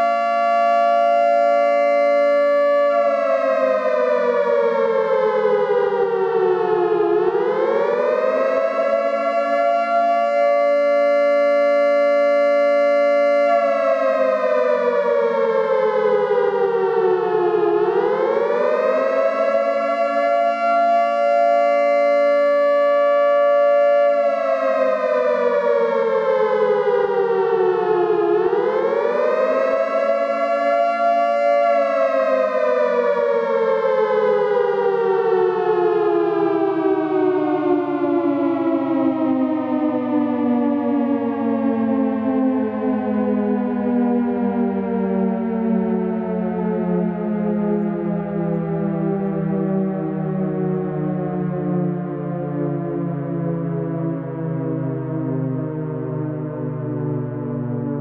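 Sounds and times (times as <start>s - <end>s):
air-raid siren wailing: 0.0s - 58.0s.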